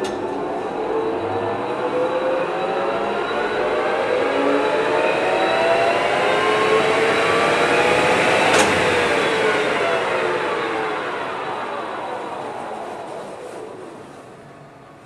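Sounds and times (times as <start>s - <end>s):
lathe gears whining: 1.2s - 15.0s.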